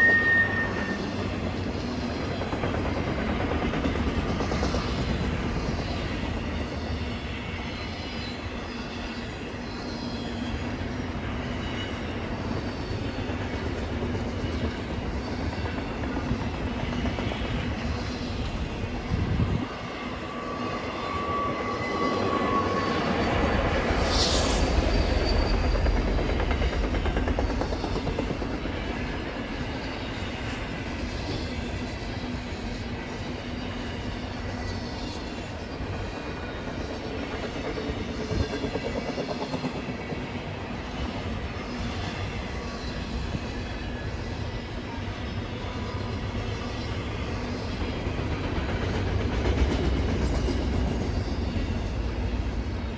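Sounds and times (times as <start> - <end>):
freight train rail rumble: 0.0 - 52.9
train wheels clattering on track: 0.0 - 52.9.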